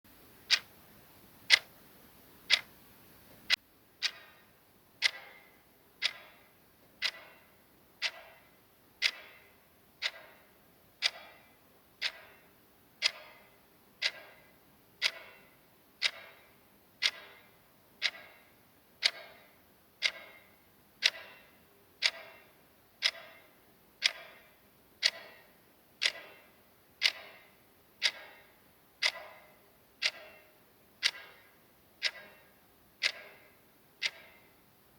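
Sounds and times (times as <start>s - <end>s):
clock ticking: 0.4s - 0.8s, 1.4s - 1.8s, 2.4s - 2.7s, 3.4s - 34.9s.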